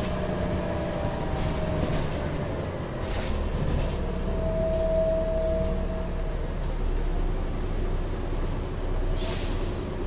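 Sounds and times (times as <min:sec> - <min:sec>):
bus diesel engine rumbling: 0:00.0 - 0:10.0.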